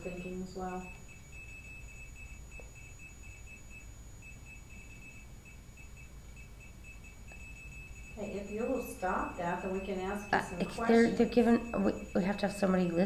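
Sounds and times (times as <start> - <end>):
detector beeping high tone: 0.0 - 13.0.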